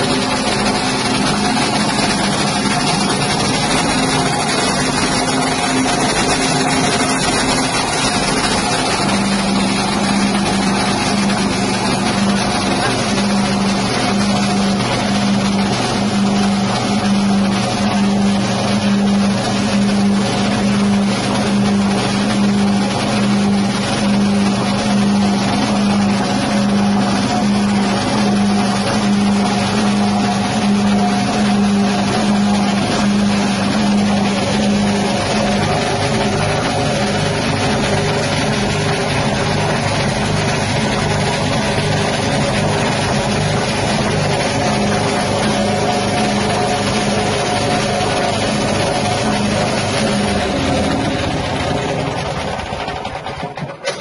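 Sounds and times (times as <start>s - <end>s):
grinding machine droning: 0.0s - 54.0s.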